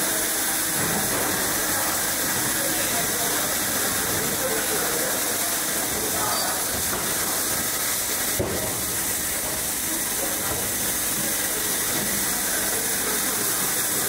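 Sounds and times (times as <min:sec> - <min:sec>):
welding machine hiss: 0:00.0 - 0:14.0.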